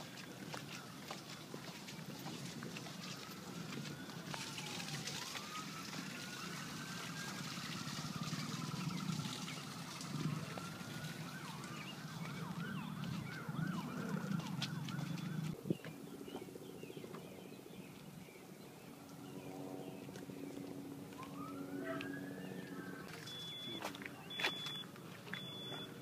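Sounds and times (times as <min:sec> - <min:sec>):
emergency siren wailing and yelping: 0:00.0 - 0:15.6, 0:20.5 - 0:26.0.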